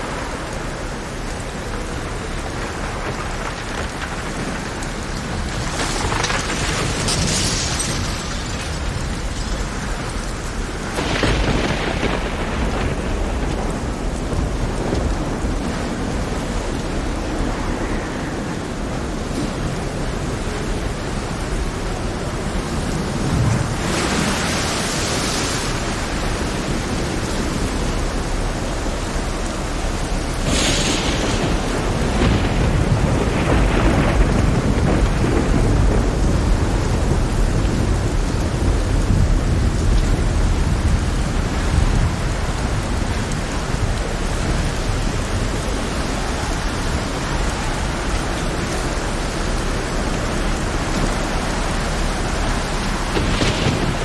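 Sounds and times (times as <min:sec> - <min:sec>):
heavy rain: 0:00.0 - 0:54.0
thunder rolling: 0:00.0 - 0:54.0.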